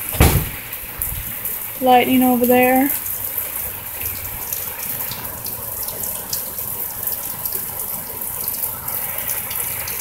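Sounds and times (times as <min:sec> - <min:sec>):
heavy rain pouring: 0:00.0 - 0:10.0
raindrops splattering close by: 0:00.0 - 0:10.0.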